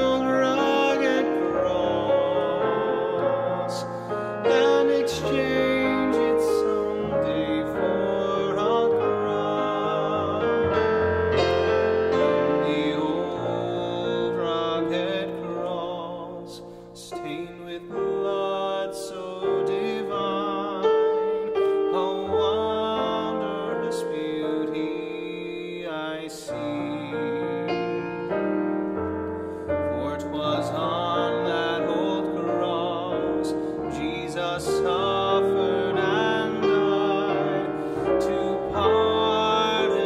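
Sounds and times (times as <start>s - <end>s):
man singing a slow hymn: 0.0s - 28.4s, 29.7s - 40.0s
piano accompaniment: 0.0s - 40.0s.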